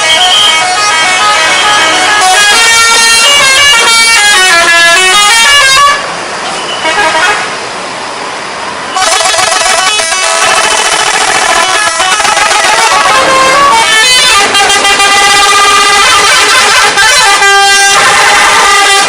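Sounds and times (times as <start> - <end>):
bus musical horn playing tune: 0.0 - 7.6, 8.9 - 19.0.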